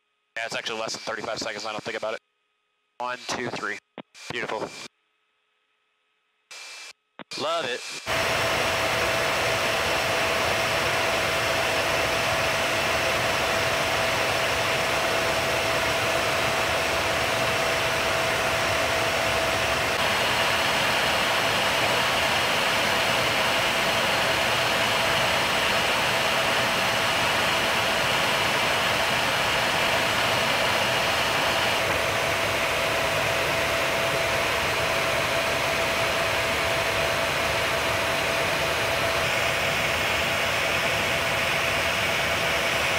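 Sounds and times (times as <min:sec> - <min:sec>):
engine and airflow rush: 0:08.1 - 0:42.9.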